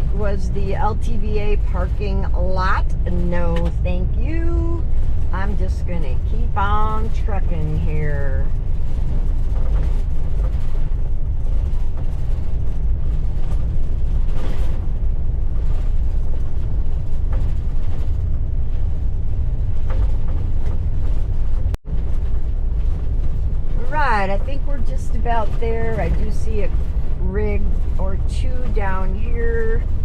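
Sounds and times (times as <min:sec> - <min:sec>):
tyres and engine rumbling on gravel: 0:00.0 - 0:30.0.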